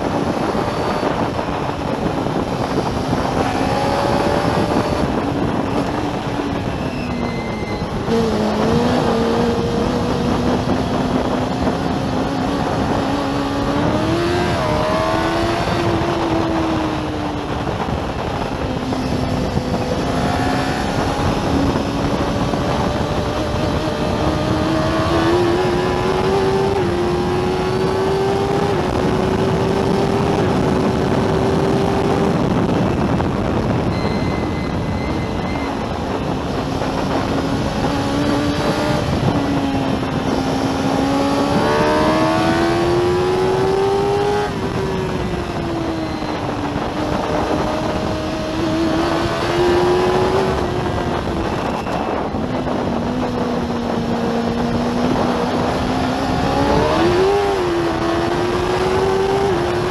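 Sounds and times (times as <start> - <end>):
engine at high revs: 0.0 - 59.9
wind and road noise: 0.0 - 59.9.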